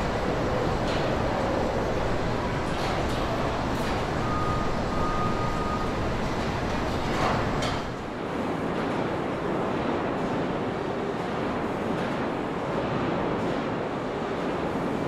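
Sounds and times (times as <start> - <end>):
workshop rumble and hiss: 0.0 - 15.0.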